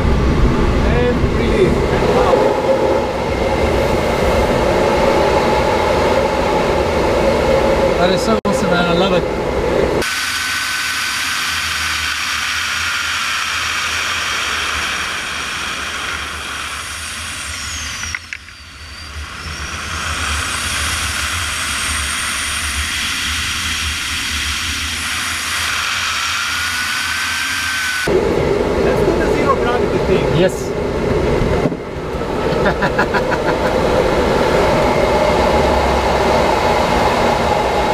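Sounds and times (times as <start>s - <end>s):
wind whistle: 0.0s - 32.4s, 33.4s - 37.9s
airflow rushing past cockpit: 0.0s - 37.9s.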